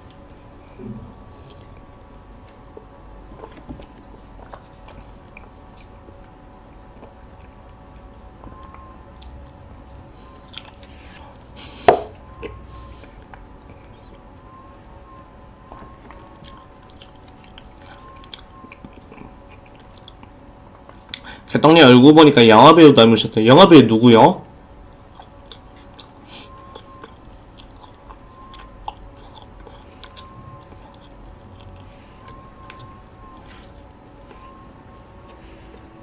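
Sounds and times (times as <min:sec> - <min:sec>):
close chewing mouth sounds: 0:00.0 - 0:11.8, 0:12.4 - 0:14.3, 0:16.0 - 0:21.5, 0:24.4 - 0:36.0.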